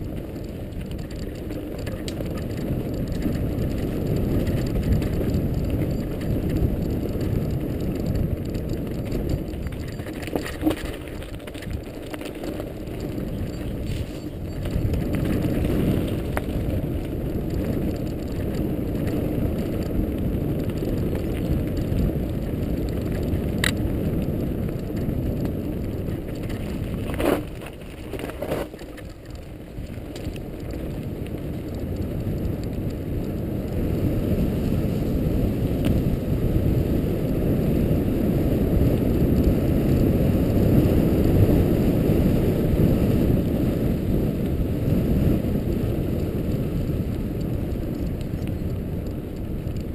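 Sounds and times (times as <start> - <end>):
bike rattling: 0.0 - 49.9
bike tyres crunching on gravel: 0.0 - 49.9.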